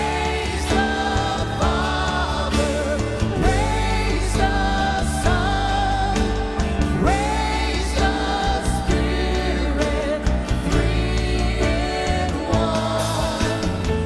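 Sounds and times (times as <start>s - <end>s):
vocal group singing worship song: 0.0s - 14.0s.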